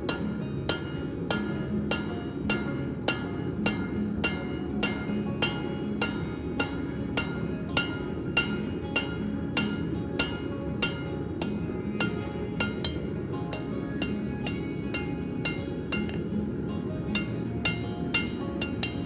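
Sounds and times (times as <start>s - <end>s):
hammer striking metal on anvil: 0.0s - 19.0s.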